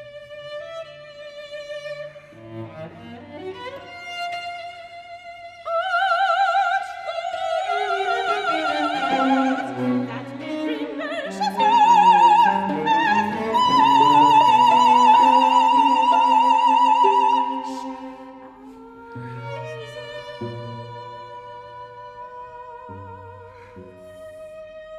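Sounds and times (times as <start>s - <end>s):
cellos playing: 0.0s - 4.8s, 7.2s - 24.9s
soprano singing: 3.2s - 24.9s.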